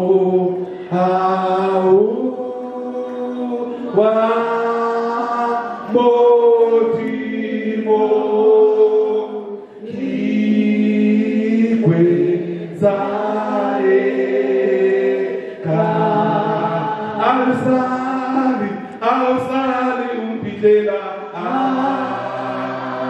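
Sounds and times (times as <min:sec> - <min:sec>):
voices singing long notes: 0:00.0 - 0:19.4, 0:21.3 - 0:23.0.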